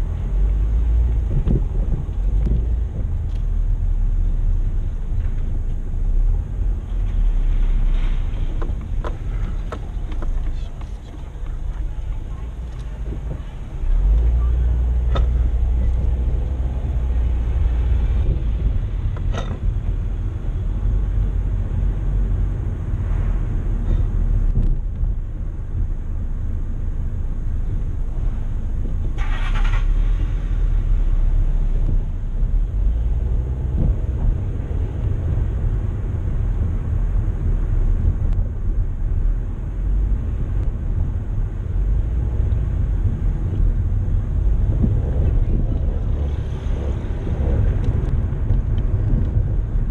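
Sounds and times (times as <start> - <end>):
car engine and tyre rumble: 0.0 - 49.9.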